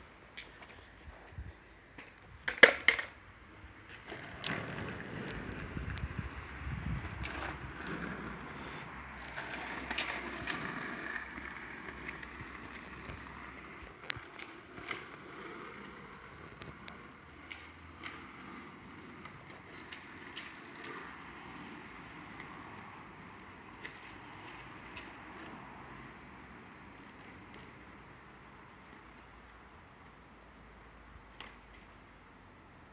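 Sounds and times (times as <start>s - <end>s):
skateboard wheels rolling on asphalt: 0.0s - 32.9s.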